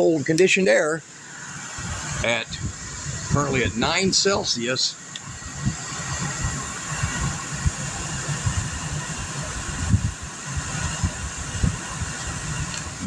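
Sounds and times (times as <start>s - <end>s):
air conditioner running: 0.0s - 13.0s
wind buffeting microphone: 1.5s - 13.0s.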